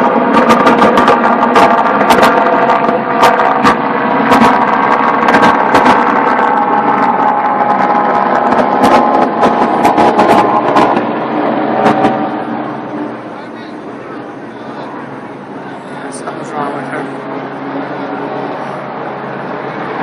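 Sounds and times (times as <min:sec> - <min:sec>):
engine running with faint whine: 0:00.0 - 0:20.0.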